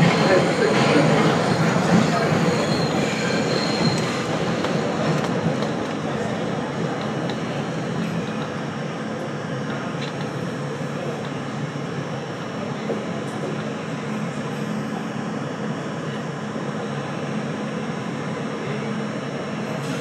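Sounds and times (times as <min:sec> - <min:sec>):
subway car rolling: 0:00.0 - 0:20.0.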